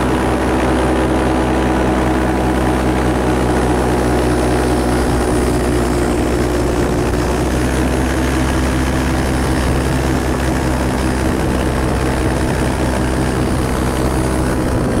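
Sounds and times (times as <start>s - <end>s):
propeller aircraft engine droning: 0.0s - 15.0s.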